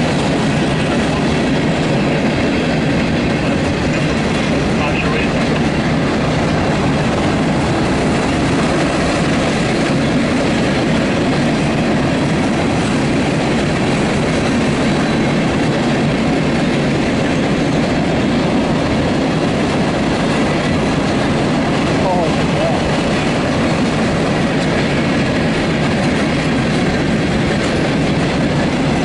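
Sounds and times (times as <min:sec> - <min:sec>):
freight train wheels rumbling: 0:00.0 - 0:29.0
wheels clacking over rail joints: 0:00.0 - 0:29.0.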